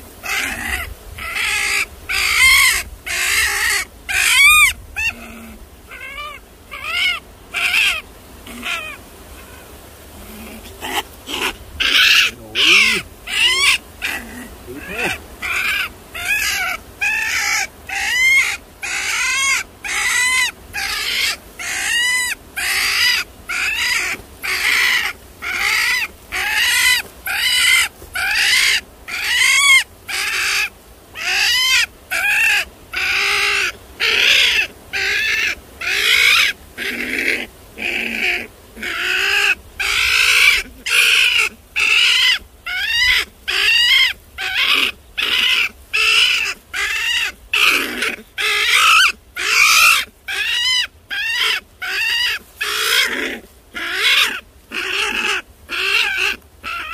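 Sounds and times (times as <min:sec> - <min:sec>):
trapped animal crying: 0:00.2 - 0:56.9.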